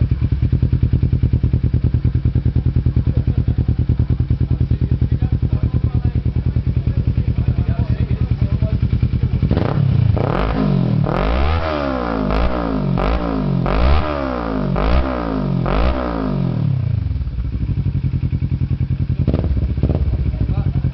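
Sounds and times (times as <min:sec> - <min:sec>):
motorcycle engine idling: 0:00.0 - 0:20.9
motorcycle engine revving: 0:00.0 - 0:20.9.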